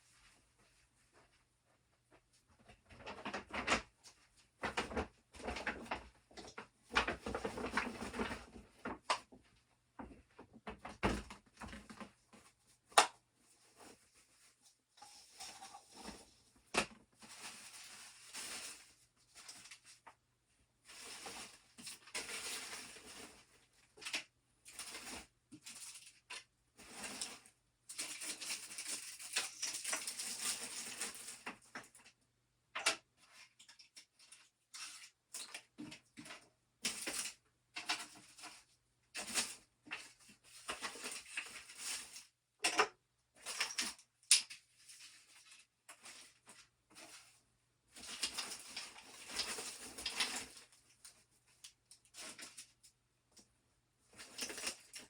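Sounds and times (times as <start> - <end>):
rustling and scraping: 0.0 - 32.2, 32.9 - 42.8, 43.4 - 55.0.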